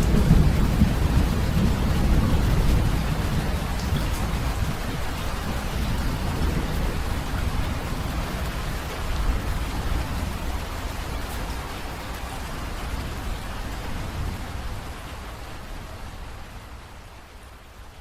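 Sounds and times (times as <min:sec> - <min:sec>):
low rumble of thunder: 0:00.0 - 0:16.8
steady rain falling: 0:00.0 - 0:18.0.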